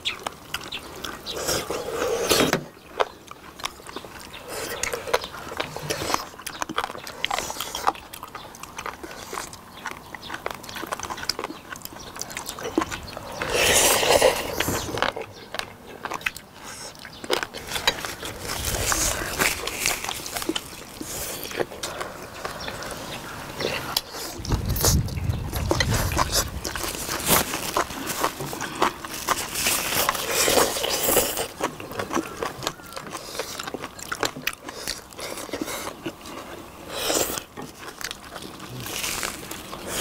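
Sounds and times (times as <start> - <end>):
food crunching: 0.0 - 40.0
people chewing and slurping: 0.0 - 40.0.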